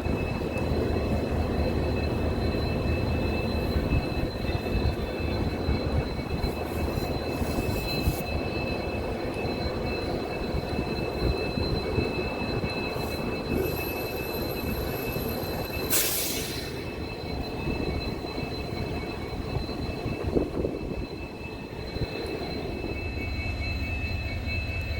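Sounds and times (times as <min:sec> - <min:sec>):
high-pitched train whine: 0:00.0 - 0:24.9
train rumbling on track: 0:00.0 - 0:24.9.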